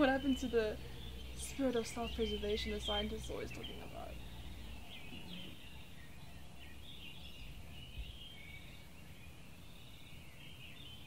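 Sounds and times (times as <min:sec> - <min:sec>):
low ambient rumble: 0:00.0 - 0:10.8
birds chirping: 0:00.0 - 0:11.0.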